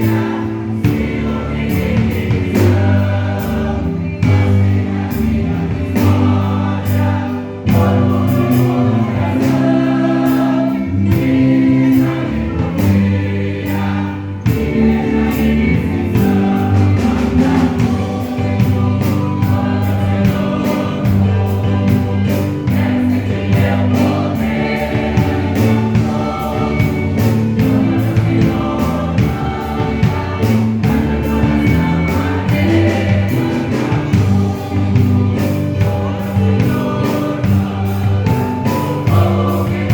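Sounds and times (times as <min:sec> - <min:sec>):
choir singing gospel: 0:00.0 - 0:39.9
instrumental accompaniment with beat: 0:00.0 - 0:39.9.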